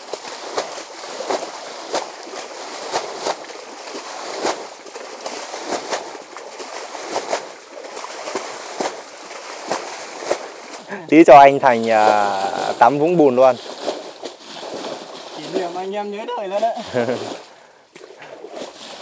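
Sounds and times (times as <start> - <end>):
steady wash of water: 0.0 - 19.0
water splashing from bailing: 0.0 - 19.0.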